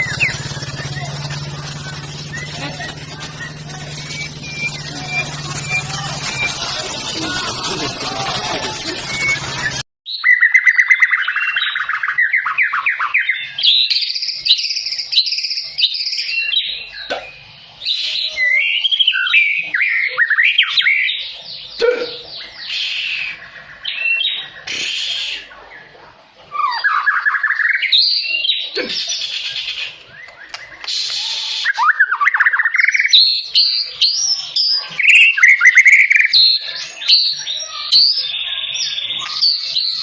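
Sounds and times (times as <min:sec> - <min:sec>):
bird singing with rolling trills: 0:00.0 - 0:40.0.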